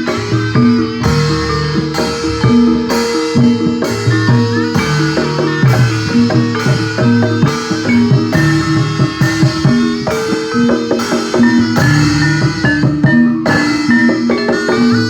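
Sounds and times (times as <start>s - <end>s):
drum strokes: 0.0s - 15.0s
metal mallet instruments: 0.0s - 15.0s.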